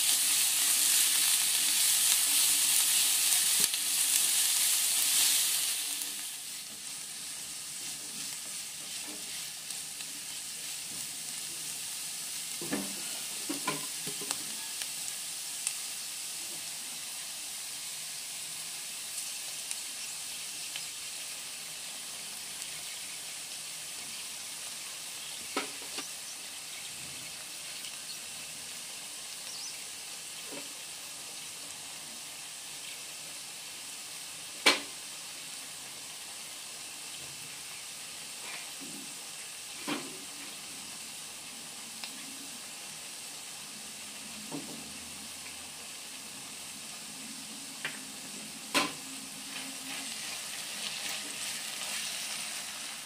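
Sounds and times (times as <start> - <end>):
onion and peppers sizzling in a wok: 0.0 - 53.0.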